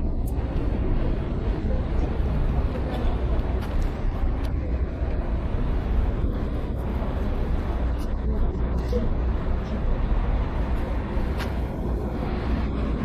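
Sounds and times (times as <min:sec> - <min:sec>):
faint voices of passers-by: 0:00.0 - 0:13.0
low rumble of city street: 0:00.0 - 0:13.0.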